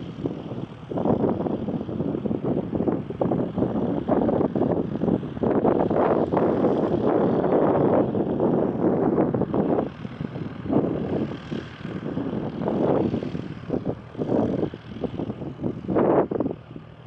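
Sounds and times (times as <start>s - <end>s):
propeller aircraft engine: 0.0s - 17.0s
wind buffeting microphone: 0.0s - 17.0s.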